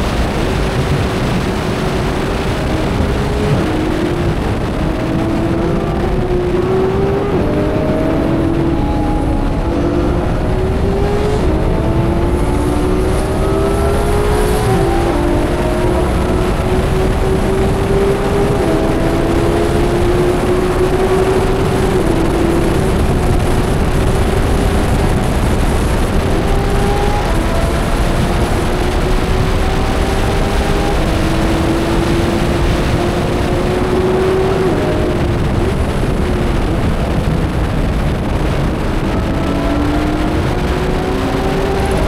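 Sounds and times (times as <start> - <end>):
car engine revving hard: 0.0 - 42.0
wind noise: 0.0 - 42.0.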